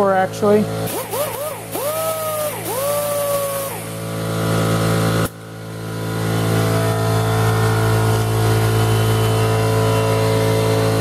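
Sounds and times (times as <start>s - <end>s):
electric air compressor running: 0.0s - 11.0s.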